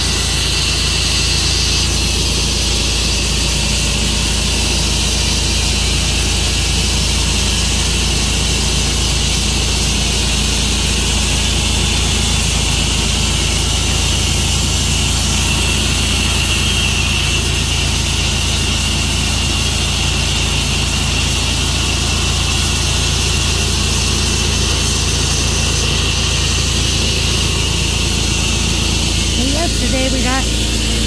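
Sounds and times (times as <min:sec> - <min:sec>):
sawmill engine hum with hiss: 0:00.0 - 0:31.0.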